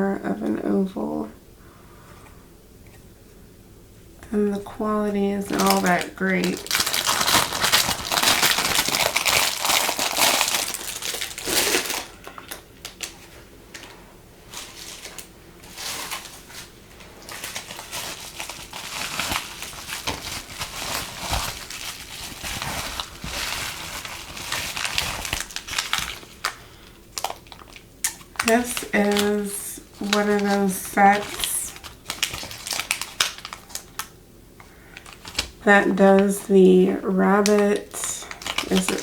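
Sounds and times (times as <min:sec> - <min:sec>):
packaging crinkling and rustling: 0:04.9 - 0:39.0.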